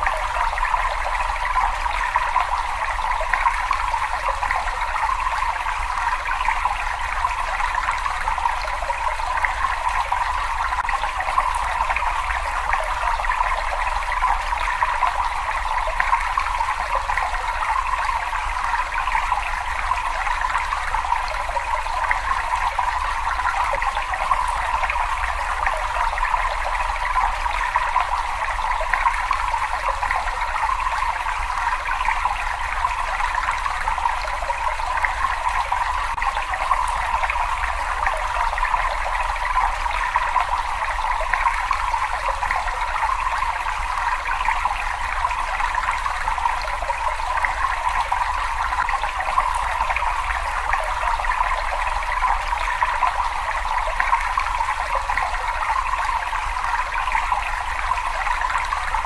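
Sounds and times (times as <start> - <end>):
water rushing in a cave: 0.0 - 59.0.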